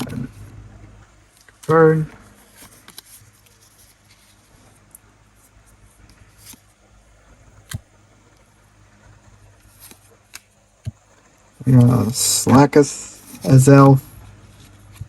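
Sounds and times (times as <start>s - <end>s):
soft rustling of card pack: 1.3s - 8.6s, 9.2s - 12.5s, 13.1s - 15.0s.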